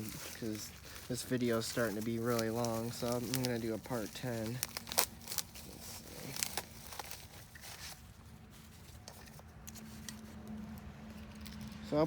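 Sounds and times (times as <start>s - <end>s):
light handling clicks and rustles: 0.0s - 12.0s.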